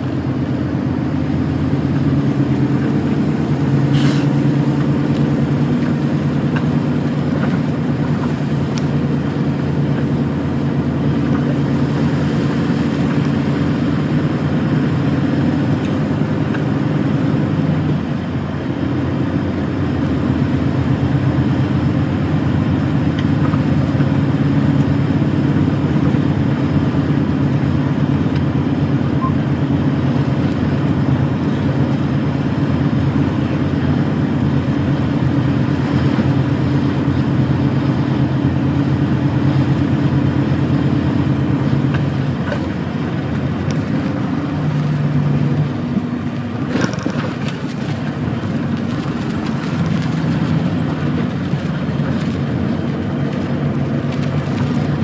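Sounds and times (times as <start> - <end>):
road noise: 0.0 - 55.0
truck diesel engine running: 0.0 - 55.0.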